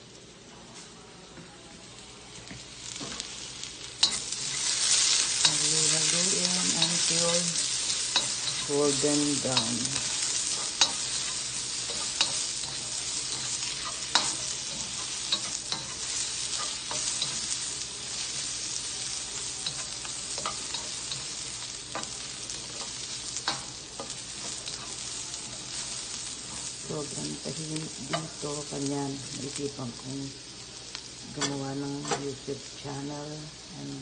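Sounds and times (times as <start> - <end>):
vegetables sizzling in a wok: 0.0 - 34.0.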